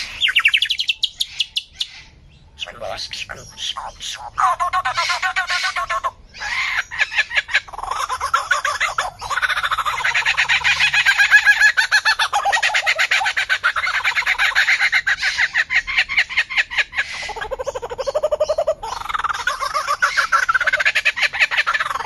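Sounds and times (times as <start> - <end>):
bird calling repeated notes: 0.0 - 22.0.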